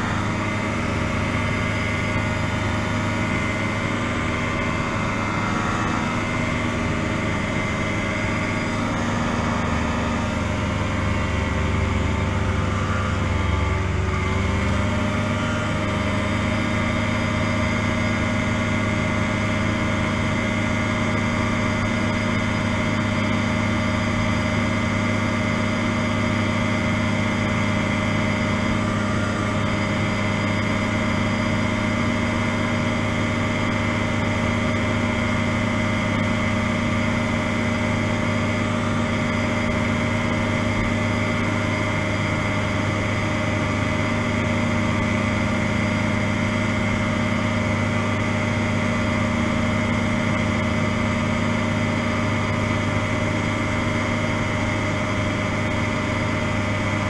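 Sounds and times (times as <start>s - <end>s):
ultralight aircraft engine droning: 0.0s - 57.0s.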